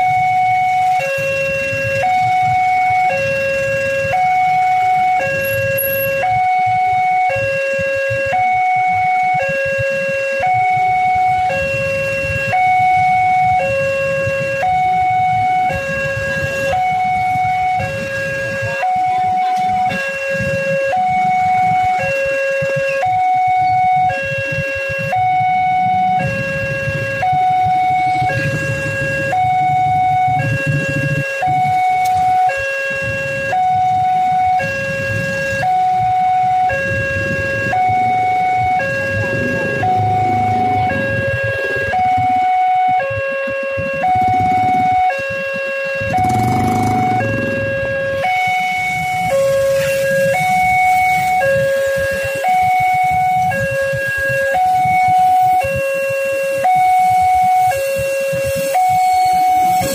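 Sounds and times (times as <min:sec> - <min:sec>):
two-tone level-crossing alarm: 0:00.0 - 0:59.9.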